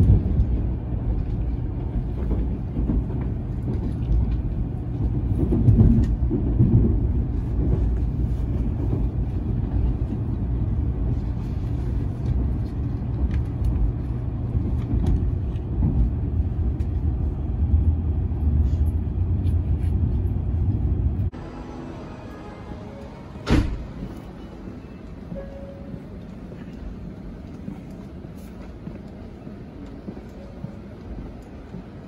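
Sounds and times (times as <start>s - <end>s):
train cabin low rumble: 0.0s - 32.0s.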